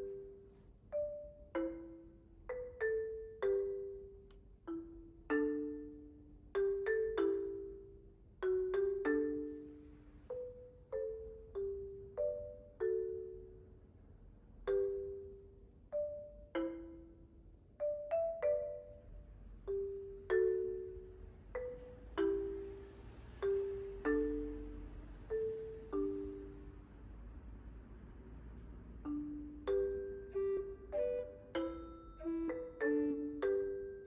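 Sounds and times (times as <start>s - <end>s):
marimba-like mallet melody: 0.0s - 14.0s, 14.6s - 27.5s, 28.6s - 34.0s.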